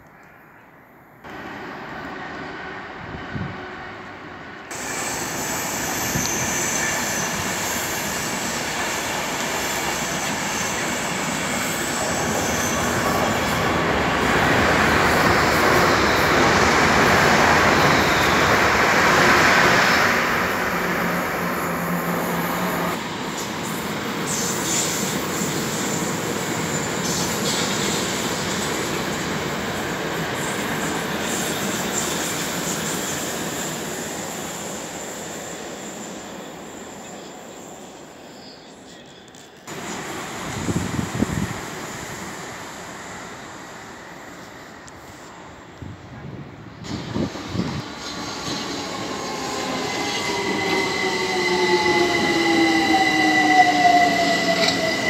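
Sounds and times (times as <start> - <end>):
train passing alongside: 0.0 - 55.0
train wheels rumbling on rails: 1.3 - 37.4, 39.0 - 55.0.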